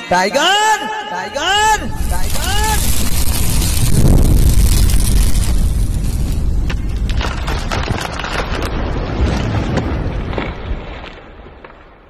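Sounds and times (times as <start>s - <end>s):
sharp crackles: 1.6s - 12.0s
deep boom and rumble: 1.7s - 12.0s.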